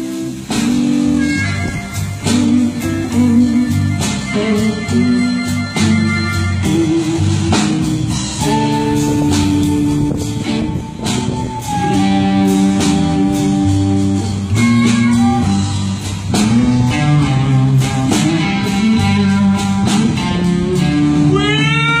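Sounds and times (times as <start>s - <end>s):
guitar-led blues music: 0.0s - 22.0s.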